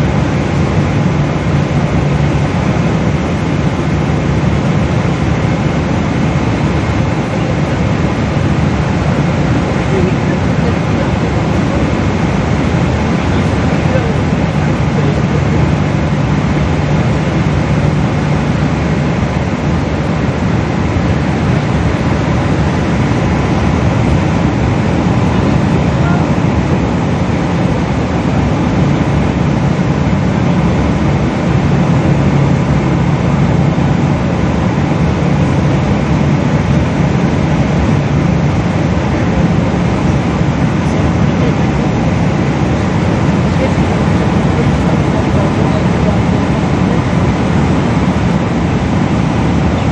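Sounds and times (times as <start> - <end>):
jet engine cabin rumble: 0.0 - 49.9.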